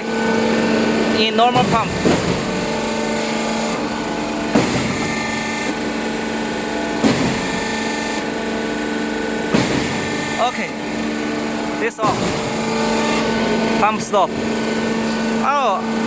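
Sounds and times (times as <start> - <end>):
concrete pump humming: 0.0 - 16.0
pumping cylinder knock: 0.9 - 15.1.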